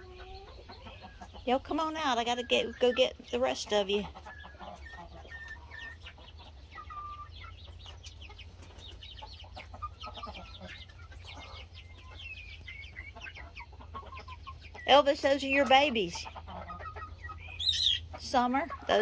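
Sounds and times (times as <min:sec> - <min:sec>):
chicks peeping: 0:00.0 - 0:19.0
hens calling: 0:00.0 - 0:19.0.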